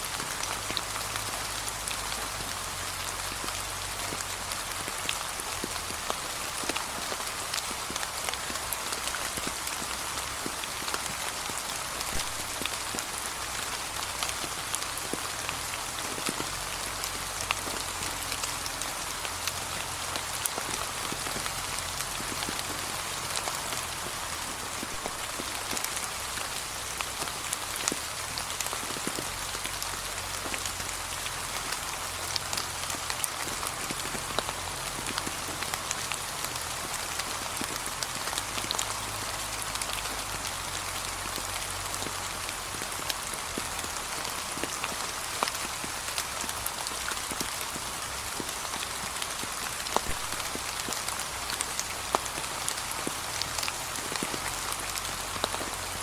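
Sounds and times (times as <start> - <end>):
rain on leaves: 0.0 - 56.0
raindrops ticking: 0.0 - 56.0.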